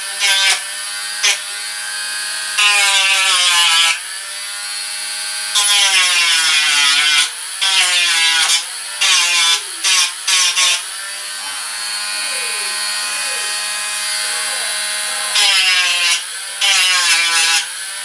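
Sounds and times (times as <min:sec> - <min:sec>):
rotary tool sanding: 0:00.0 - 0:18.0.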